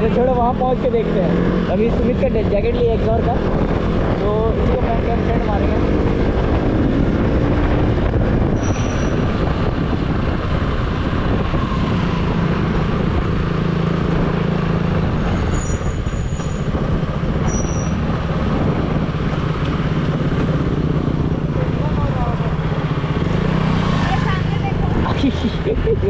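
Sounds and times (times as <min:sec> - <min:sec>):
motorcycle engine running: 0:00.0 - 0:15.4, 0:16.3 - 0:26.0
wind rushing over microphone: 0:01.3 - 0:26.0.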